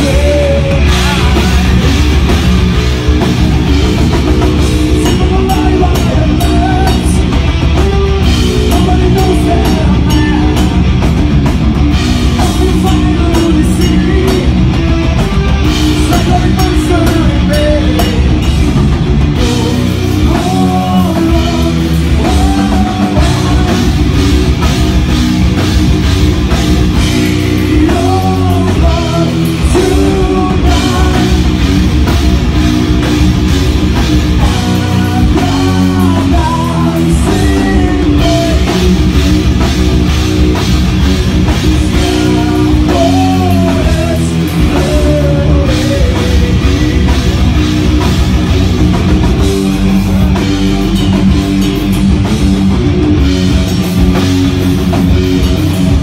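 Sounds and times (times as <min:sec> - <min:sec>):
drum kit: 0:00.0 - 0:56.0
electric guitar riffs: 0:00.0 - 0:56.0
heavy metal band playing live: 0:00.0 - 0:56.0.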